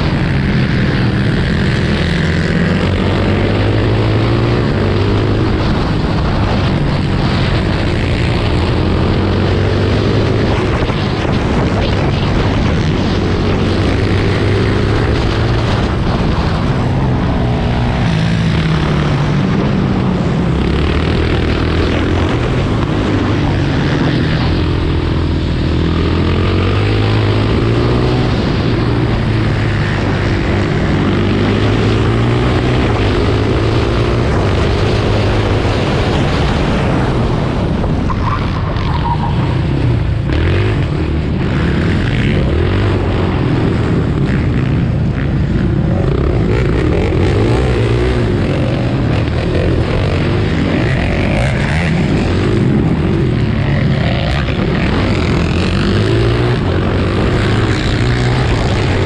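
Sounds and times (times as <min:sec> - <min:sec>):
racing quad engine accelerating: 0:00.0 - 0:59.0.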